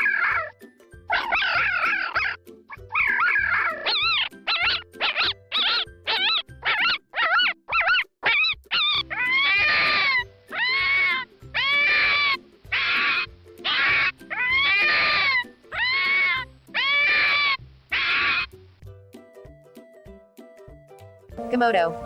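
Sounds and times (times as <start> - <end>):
fox yelping: 0.0 - 18.6
faint background music: 0.0 - 22.0.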